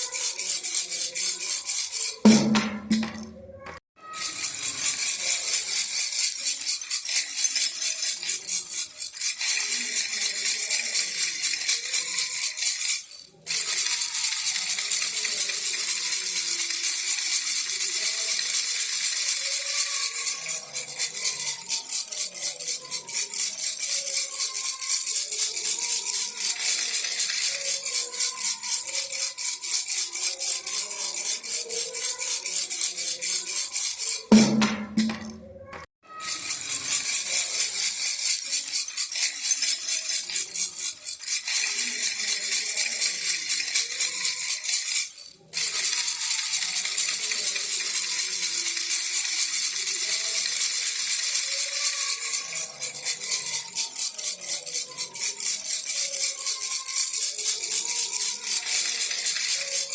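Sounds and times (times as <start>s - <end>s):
baby rattle shaking: 0.0s - 59.9s.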